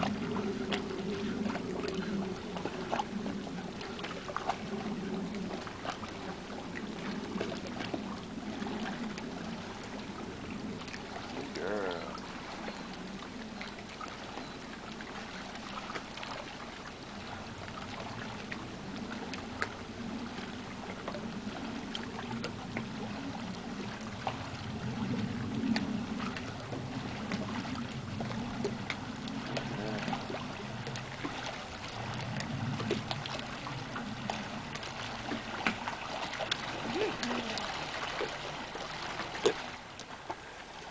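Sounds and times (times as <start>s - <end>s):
low rumble: 0.0s - 14.2s, 15.8s - 39.9s
water lapping against boat hull: 0.0s - 40.9s.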